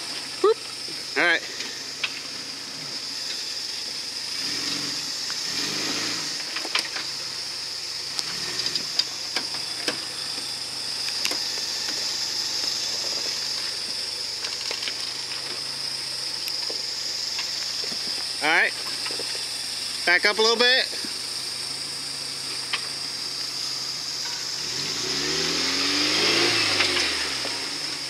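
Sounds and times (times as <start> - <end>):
off-road vehicle engine: 0.0 - 28.0.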